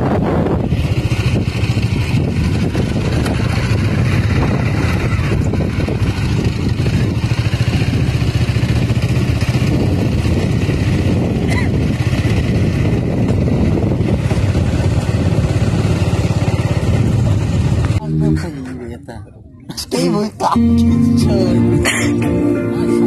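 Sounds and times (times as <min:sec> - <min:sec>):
motorcycle engine running: 0:00.0 - 0:18.5.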